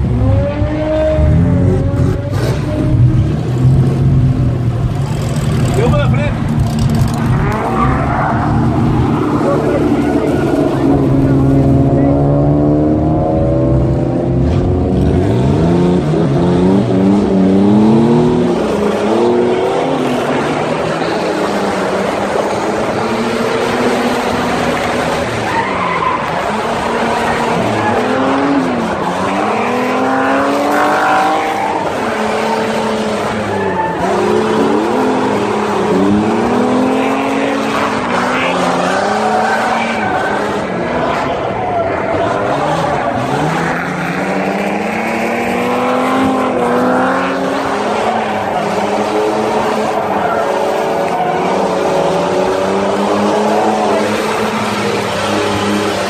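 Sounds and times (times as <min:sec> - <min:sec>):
engine revving: 0:00.0 - 0:25.5, 0:26.2 - 0:56.0
tyres skidding: 0:00.0 - 0:56.0.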